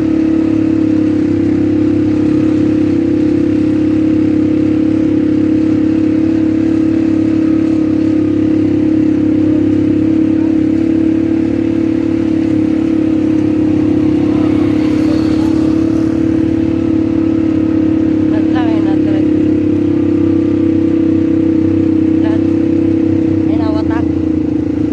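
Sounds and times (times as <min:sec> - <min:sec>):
atv engine running: 0:00.0 - 0:24.9.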